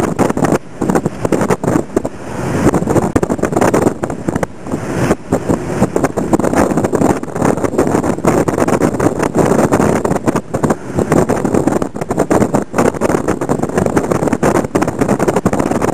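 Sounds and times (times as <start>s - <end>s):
car road and engine noise: 0.0s - 15.9s.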